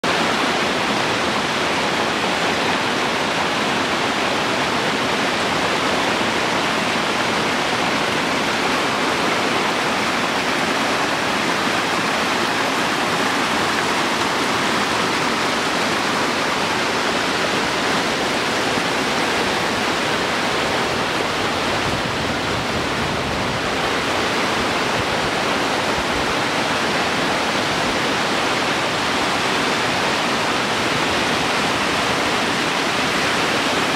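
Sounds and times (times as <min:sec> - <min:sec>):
creek rushing over rocks: 0:00.0 - 0:33.9.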